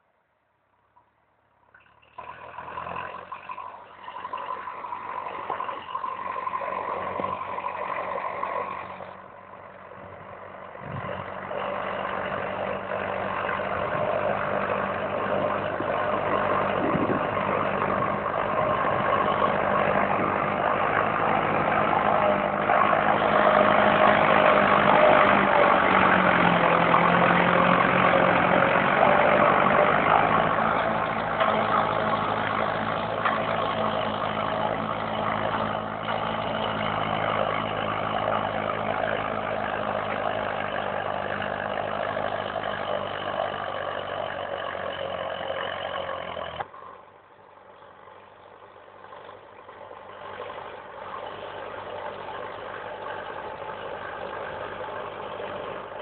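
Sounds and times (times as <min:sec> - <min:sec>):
tractor diesel engine under load: 0:01.6 - 0:56.0.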